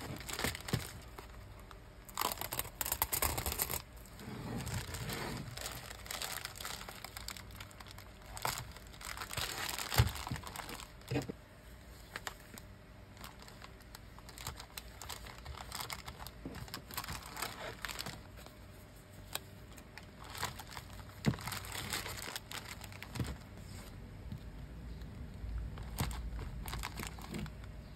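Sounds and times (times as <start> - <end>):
plastic mailer crinkling: 0.0 - 11.4, 12.0 - 23.6, 25.5 - 27.8.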